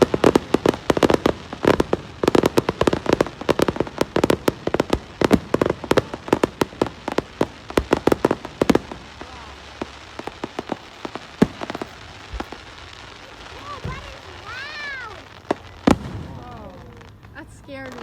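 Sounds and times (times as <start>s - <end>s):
fireworks bangs and pops: 0.0s - 18.0s.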